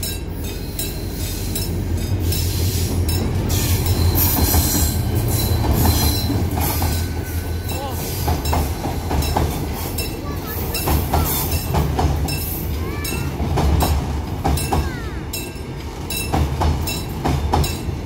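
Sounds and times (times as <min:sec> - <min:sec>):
diesel locomotive engine drone: 0:00.0 - 0:18.0
train wheels rumbling on rails: 0:00.0 - 0:18.0.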